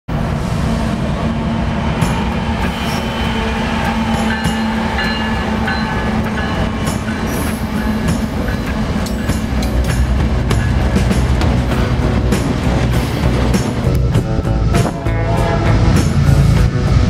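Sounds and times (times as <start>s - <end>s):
diesel locomotive engine rumble: 0.1s - 17.0s.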